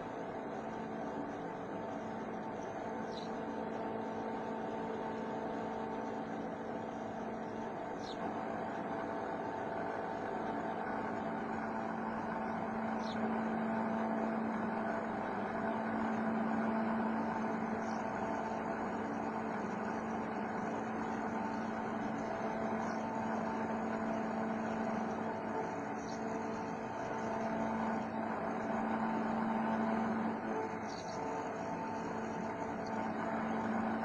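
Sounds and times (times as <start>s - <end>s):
machine motor whine and hum: 0.0s - 34.0s.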